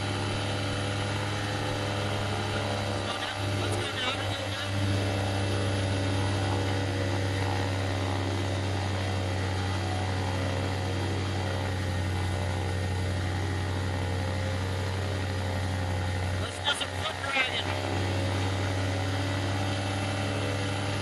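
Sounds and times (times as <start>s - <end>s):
paramotor engine running: 0.0s - 21.0s.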